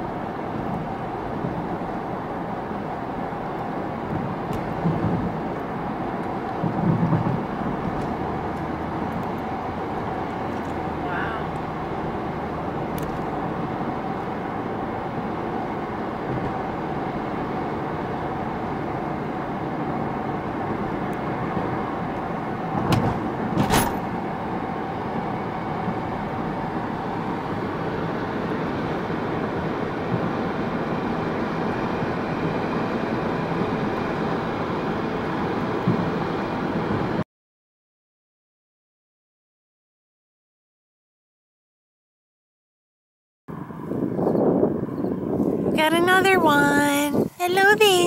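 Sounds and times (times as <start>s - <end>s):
car road and engine noise: 0.0s - 37.2s, 43.5s - 48.0s.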